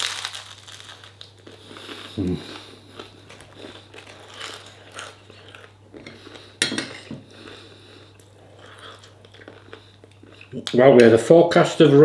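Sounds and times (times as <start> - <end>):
person chewing crunchy food: 0.0 - 10.8.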